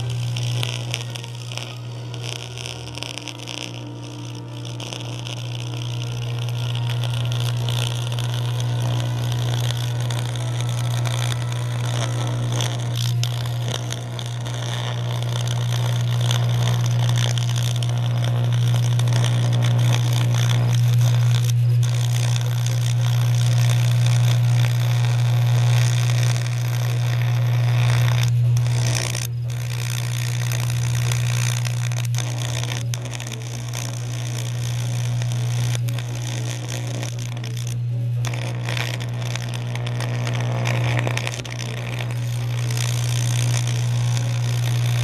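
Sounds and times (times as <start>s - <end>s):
electric arc buzzing and crackling: 0.0s - 45.0s.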